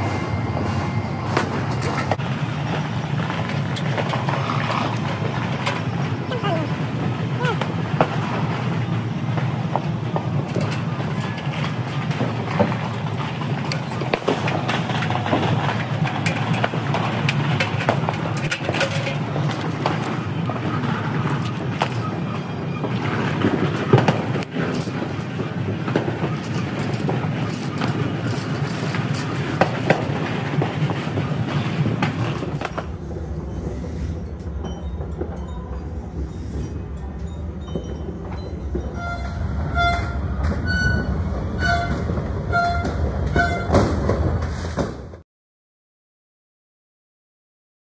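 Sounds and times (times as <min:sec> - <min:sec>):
fireworks crackling and banging: 0:01.3 - 0:45.2.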